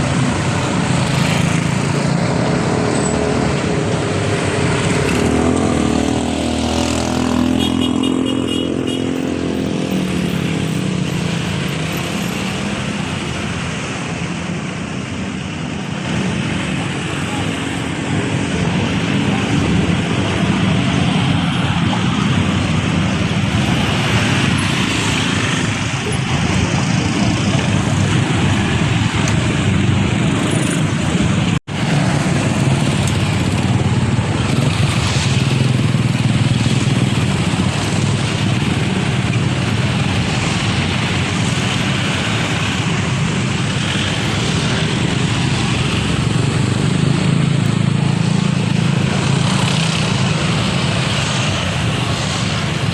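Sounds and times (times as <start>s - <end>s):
diesel truck engines in traffic: 0.0s - 52.9s.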